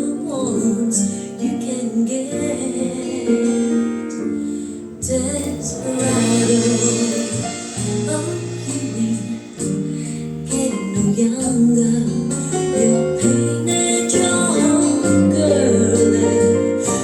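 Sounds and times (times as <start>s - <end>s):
ballad through small speaker: 0.0s - 17.0s.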